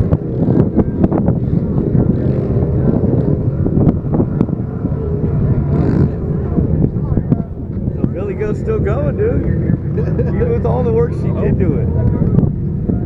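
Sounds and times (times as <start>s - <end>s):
off-road vehicle engines rumbling: 0.0s - 13.0s
wind buffeting microphone: 0.0s - 13.0s.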